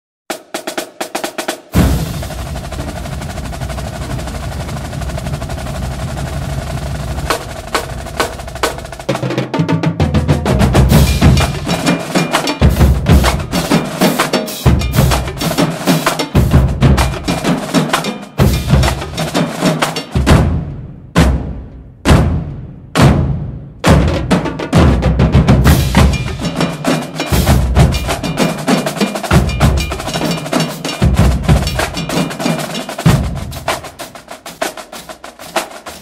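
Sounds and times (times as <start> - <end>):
heavy drum beats with bass: 0.3 - 36.0
rapid drum roll: 0.3 - 36.0.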